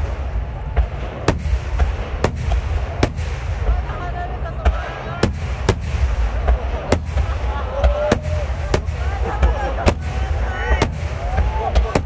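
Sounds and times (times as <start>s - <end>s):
fireworks bursting with bangs: 0.0s - 12.0s
low rumble: 0.0s - 12.0s.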